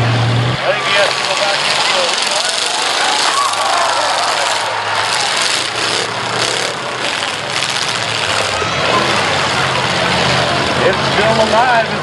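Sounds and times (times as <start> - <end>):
car engine running rough: 0.0 - 12.0.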